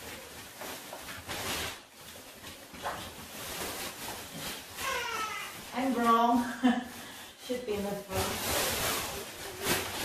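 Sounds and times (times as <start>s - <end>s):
fabric rustling: 0.0s - 10.0s.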